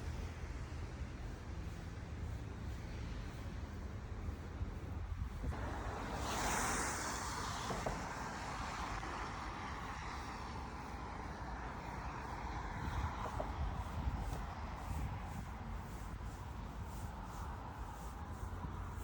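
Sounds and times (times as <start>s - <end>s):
city traffic rumble: 0.0s - 19.0s
tyre hiss on wet street: 0.0s - 19.0s.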